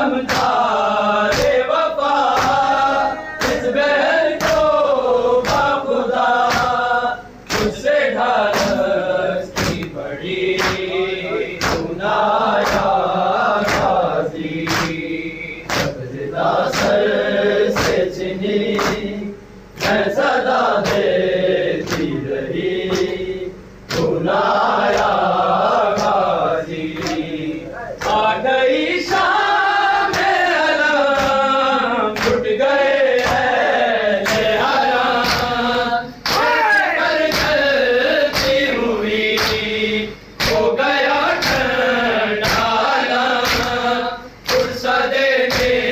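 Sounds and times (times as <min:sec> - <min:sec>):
men chanting a lament: 0:00.0 - 0:45.9.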